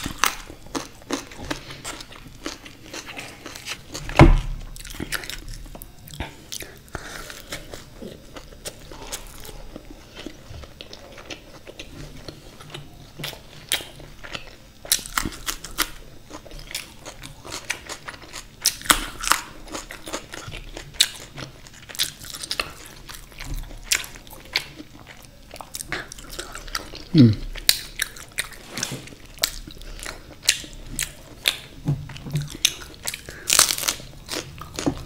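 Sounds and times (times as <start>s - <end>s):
person chewing and biting food: 0.0s - 35.0s.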